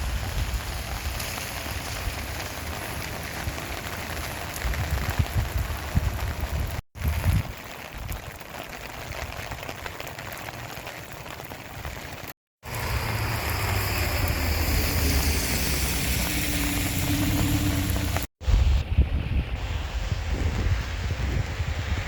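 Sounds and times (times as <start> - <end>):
rain pattering on surfaces: 0.0 - 18.3.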